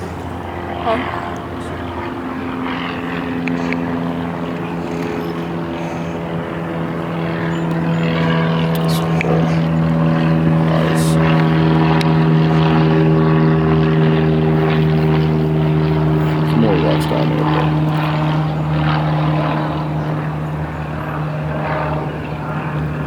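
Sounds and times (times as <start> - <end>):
propeller airplane engine drone: 0.0 - 23.0.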